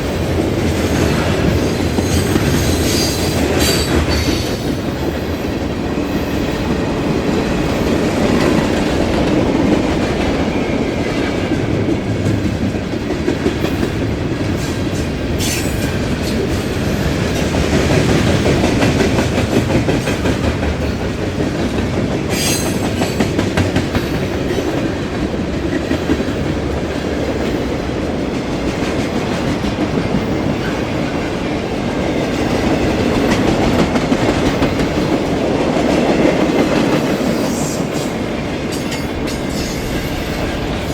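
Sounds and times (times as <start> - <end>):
freight train rumbling: 0.0 - 40.9.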